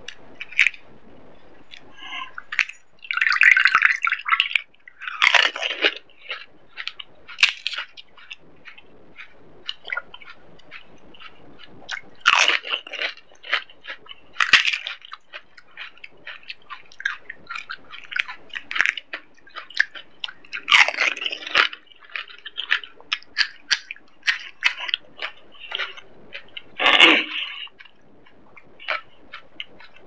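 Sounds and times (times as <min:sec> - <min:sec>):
wet chewing: 0:00.0 - 0:30.0
crisp shells crunching: 0:05.0 - 0:30.0.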